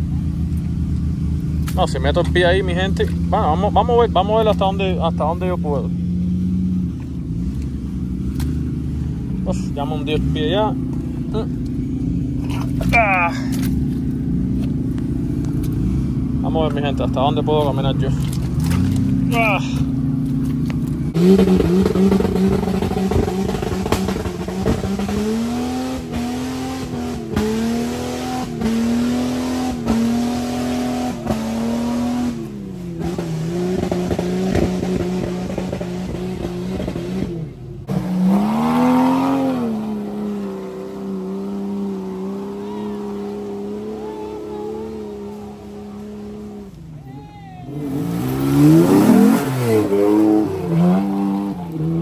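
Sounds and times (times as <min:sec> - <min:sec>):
engines revving hard: 0:01.5 - 0:46.9, 0:47.7 - 0:52.0.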